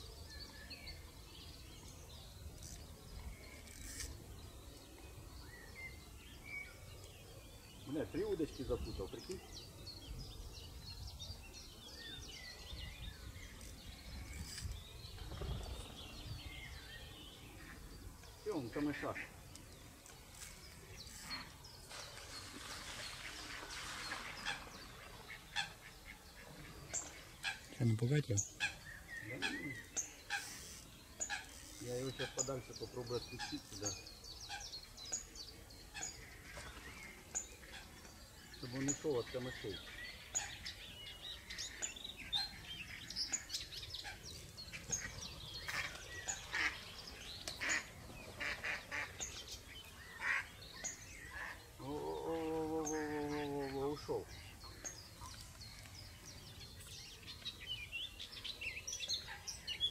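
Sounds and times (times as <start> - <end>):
wild birds chirping and calling: 0.0 - 59.9.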